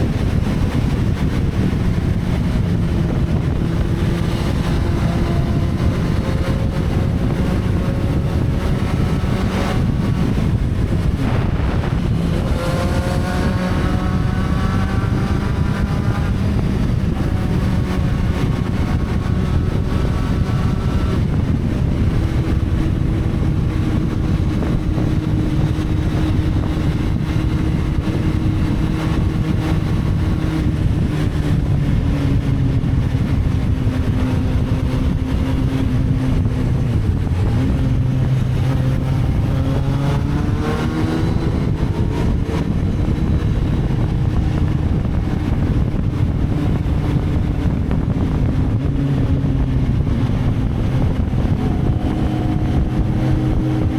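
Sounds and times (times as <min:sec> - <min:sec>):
motorcycle engine running: 0:00.0 - 0:53.9
wind on microphone: 0:00.0 - 0:53.9.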